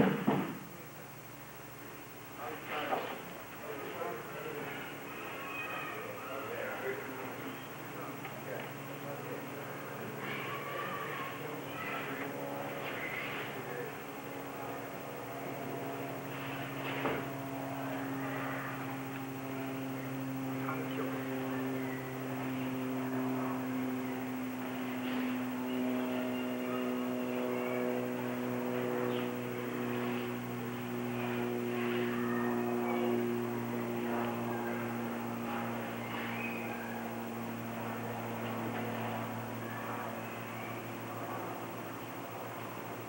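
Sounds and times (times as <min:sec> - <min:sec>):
mechanical engine-like drone: 0:00.0 - 0:43.0.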